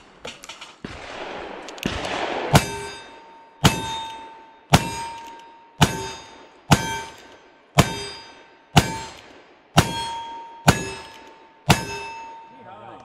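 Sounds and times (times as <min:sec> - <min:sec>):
steel target ringing: 0:02.2 - 0:12.9.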